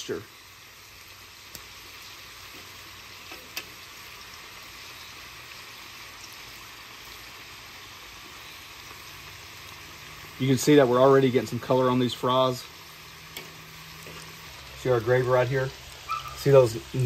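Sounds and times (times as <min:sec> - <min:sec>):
fries bubbling in oil: 0:00.0 - 0:17.0.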